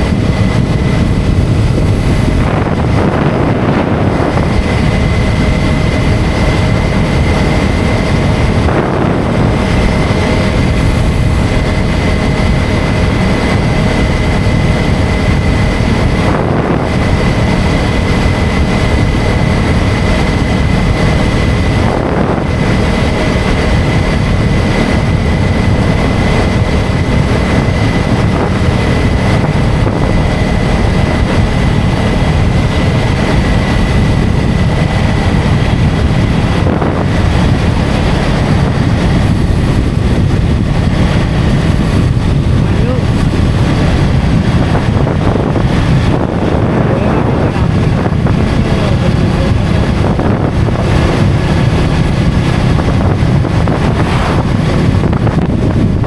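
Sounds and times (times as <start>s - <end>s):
motorcycle engine running: 0.0s - 56.0s
thin high whine: 0.0s - 56.0s
wind noise on microphone: 0.0s - 56.0s.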